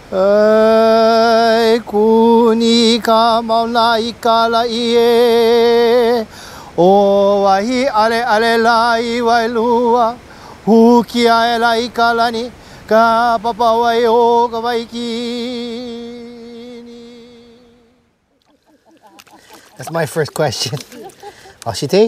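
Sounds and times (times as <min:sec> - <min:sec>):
person chanting unaccompanied: 0:00.0 - 0:18.0.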